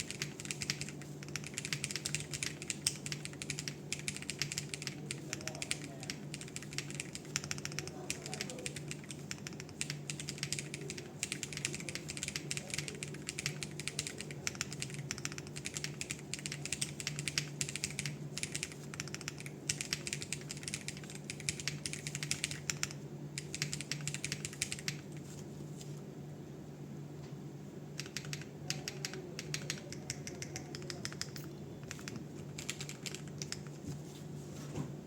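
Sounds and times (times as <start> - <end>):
fast typing on mechanical keyboard: 0.0 - 25.2, 28.0 - 33.8.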